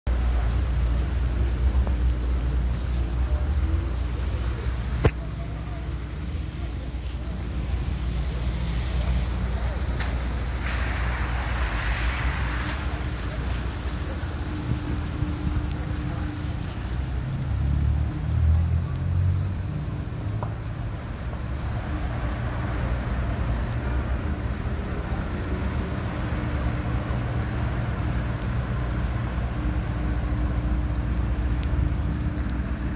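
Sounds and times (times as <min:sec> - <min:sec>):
motor vehicle low rumble: 0:00.1 - 0:32.9.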